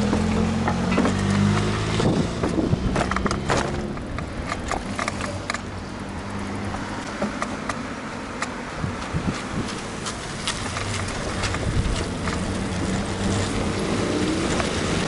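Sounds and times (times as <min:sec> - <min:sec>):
bicycle clicks and rattles: 0:00.0 - 0:15.0
low engine hum: 0:00.0 - 0:15.0
steady rushing noise: 0:01.7 - 0:15.0.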